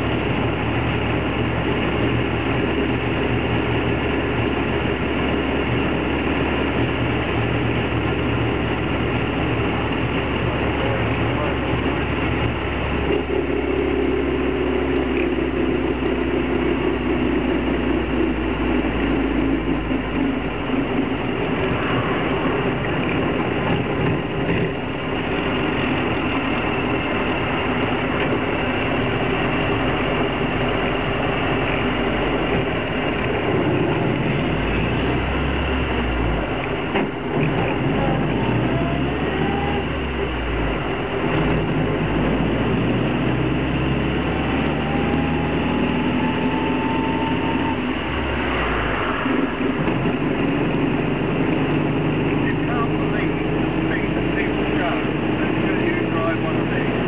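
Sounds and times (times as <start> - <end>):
road and body noise: 0.0 - 57.0
small car engine running: 0.0 - 57.0.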